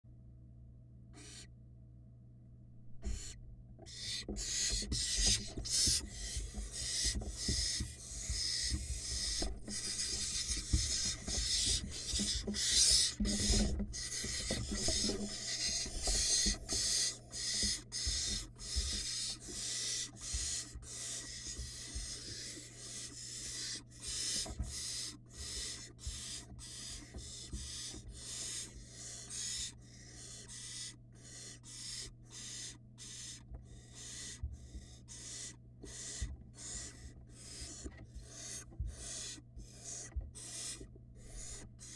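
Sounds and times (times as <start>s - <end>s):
owl nestlings hissing begging calls: 1.2s - 1.5s, 3.0s - 41.9s.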